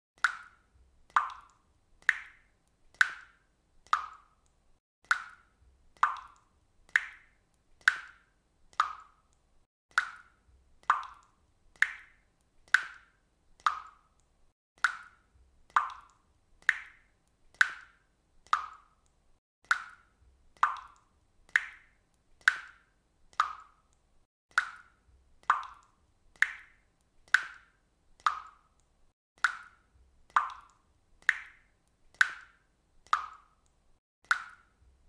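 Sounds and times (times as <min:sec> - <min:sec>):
faucet dripping into water: 0:00.2 - 0:35.0.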